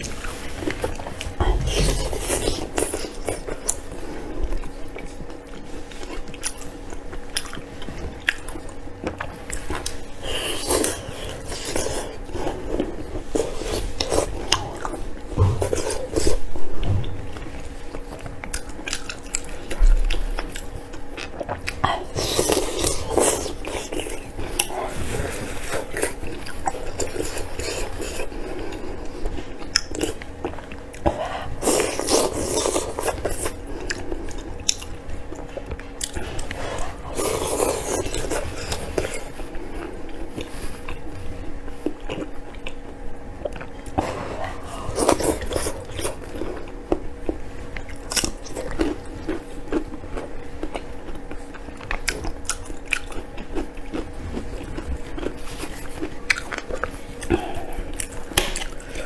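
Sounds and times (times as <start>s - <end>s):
biting and chewing meat: 0.0s - 59.0s
crunchy chewing: 0.0s - 59.0s.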